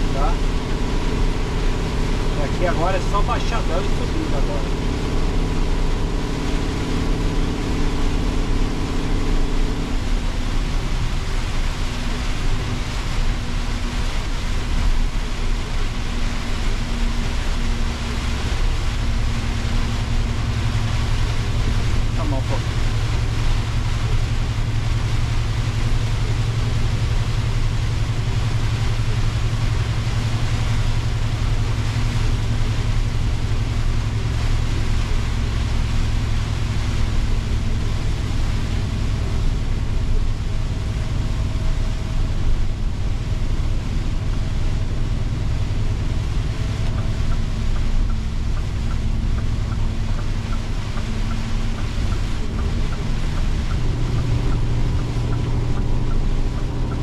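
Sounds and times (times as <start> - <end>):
diesel engine drone: 0.0 - 57.0
tyres hissing on wet road: 0.0 - 57.0.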